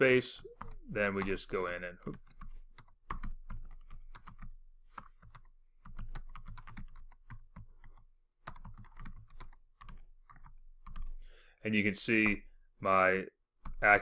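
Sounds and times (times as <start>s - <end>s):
keyboard typing: 0.2s - 11.2s, 13.6s - 13.9s.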